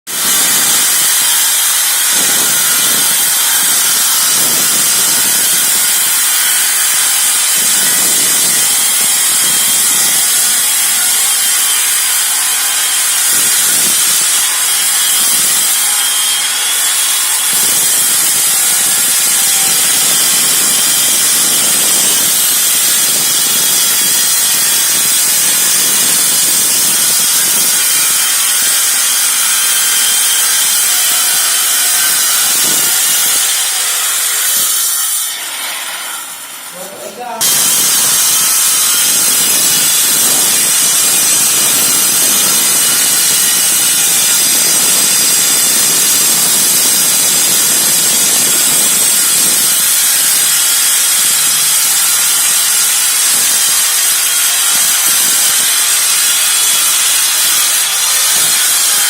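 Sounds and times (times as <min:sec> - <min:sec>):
power cutter grinding concrete: 0:00.1 - 0:59.0.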